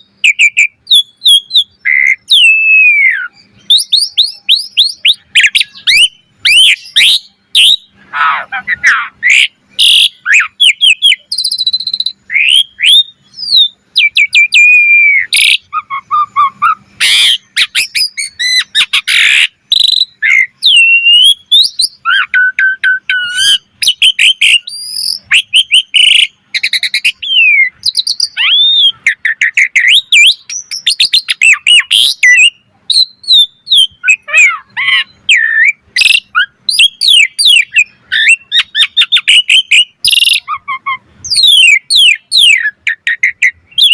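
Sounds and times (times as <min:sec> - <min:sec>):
starling singing: 0:00.0 - 0:43.9.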